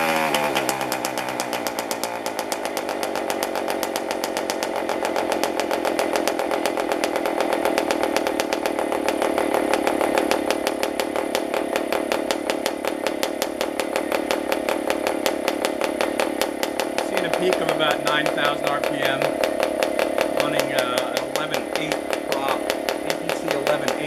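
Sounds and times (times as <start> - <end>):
model engine running at high speed: 0.0 - 24.0.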